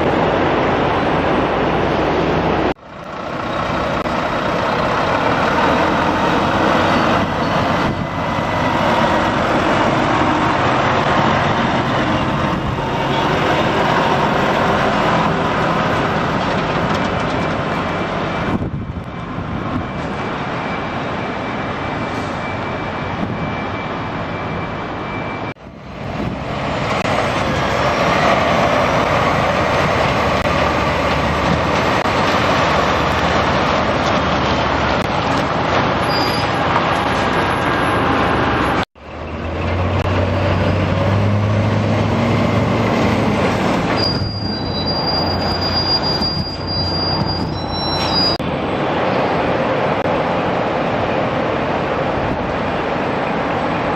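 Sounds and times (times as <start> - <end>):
diesel lorries driving past: 0.0 - 53.9.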